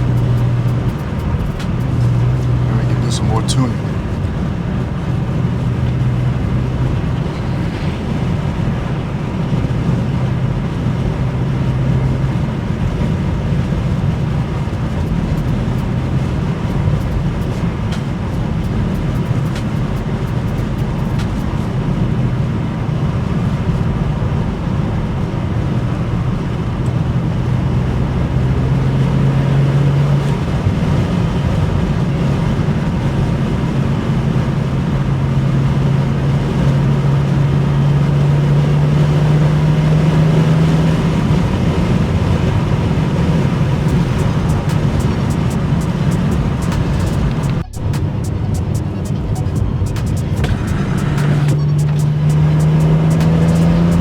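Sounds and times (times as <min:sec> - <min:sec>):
car engine drone: 0:00.0 - 0:54.0
tyre and road noise: 0:00.0 - 0:54.0.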